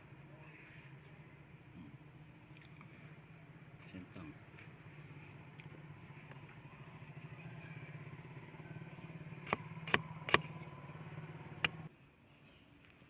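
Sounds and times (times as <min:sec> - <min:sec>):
engine idling with pulsing hum: 0:00.0 - 0:11.9.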